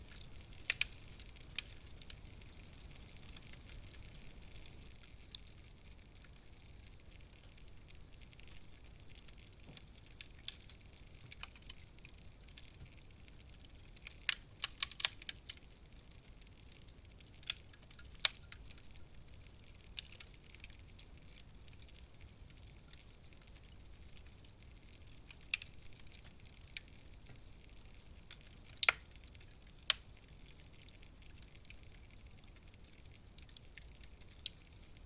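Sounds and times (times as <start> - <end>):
soft fire hiss: 0.0 - 35.0
wood fire crackling and popping: 0.0 - 35.0.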